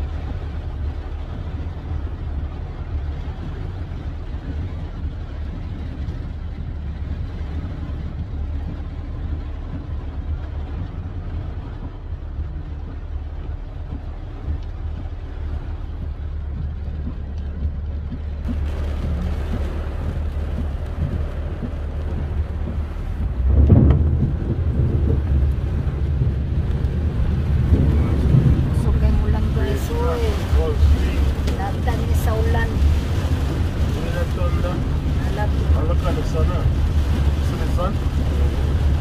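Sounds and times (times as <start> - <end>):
engine and tyres rumble: 0.0 - 39.0
rain hiss: 0.0 - 39.0.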